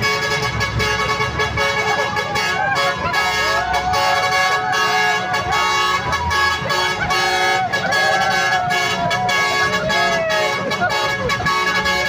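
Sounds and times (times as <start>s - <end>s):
truck horns sounding chord: 0.0s - 12.0s.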